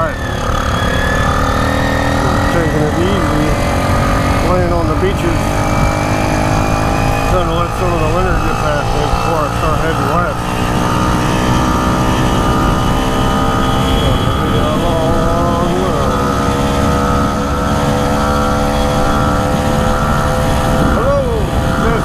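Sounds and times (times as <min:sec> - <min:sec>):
small motorbike engine droning: 0:00.0 - 0:22.0.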